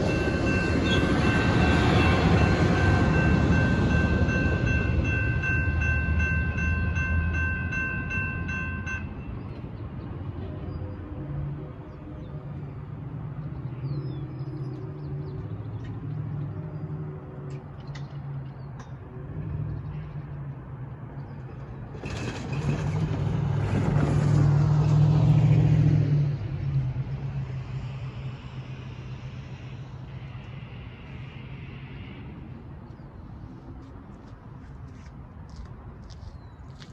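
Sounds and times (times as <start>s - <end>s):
road vehicle passing: 0.0s - 36.9s.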